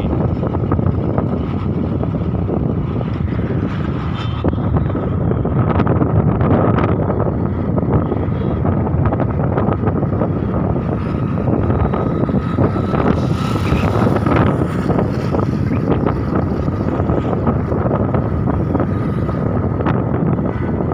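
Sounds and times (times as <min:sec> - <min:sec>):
vehicle road rumble: 0:00.0 - 0:20.9
wind buffeting microphone: 0:00.0 - 0:20.9.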